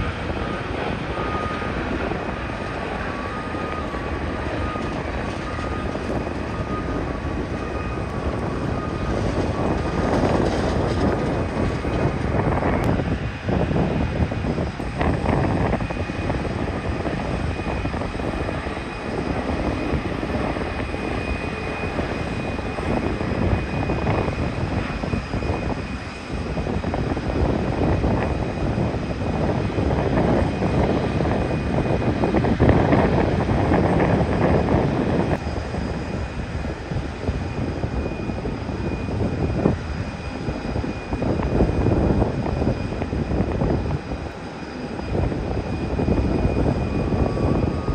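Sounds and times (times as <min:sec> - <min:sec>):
jet engines of landing airliner: 0:00.0 - 0:47.9.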